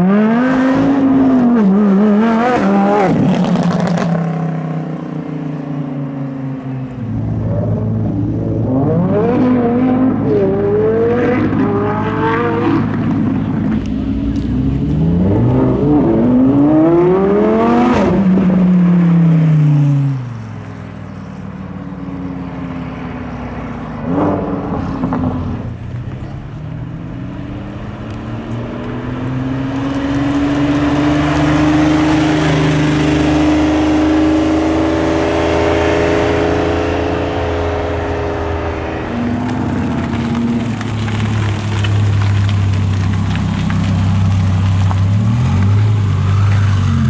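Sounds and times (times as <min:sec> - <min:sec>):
car accelerating: 0:00.0 - 0:47.0
car engines revving: 0:00.0 - 0:47.0.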